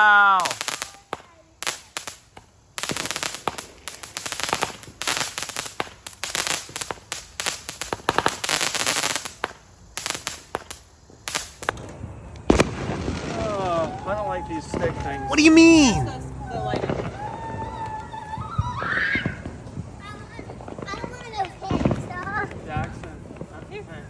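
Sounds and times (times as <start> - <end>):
firework cracks and pops: 0.0 - 16.0, 16.8 - 24.0.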